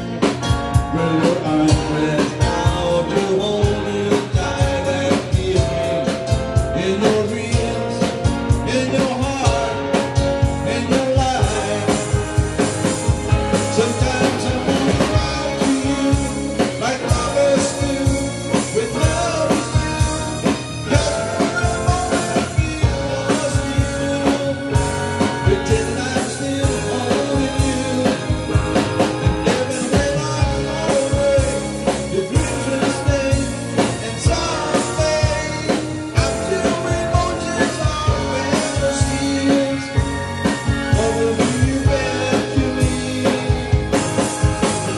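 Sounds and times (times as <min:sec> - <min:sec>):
live rock band playing: 0:00.0 - 0:44.9
man singing lead vocals: 0:00.0 - 0:44.9.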